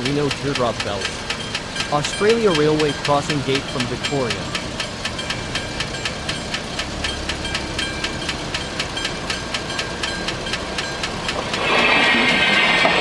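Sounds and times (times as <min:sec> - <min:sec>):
level crossing bell ringing: 0:00.0 - 0:11.5
train noise: 0:00.0 - 0:13.0.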